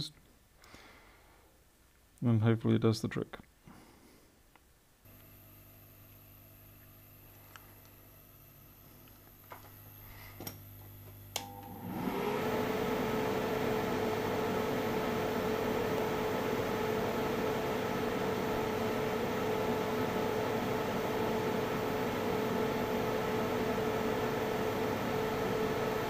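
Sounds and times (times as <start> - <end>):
hot-air station humming and whining: 5.1 - 26.0.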